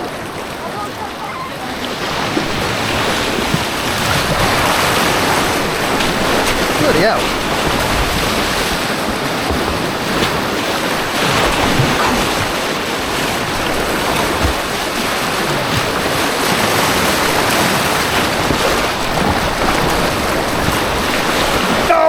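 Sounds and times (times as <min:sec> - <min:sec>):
white water rushing: 0:00.0 - 0:22.0.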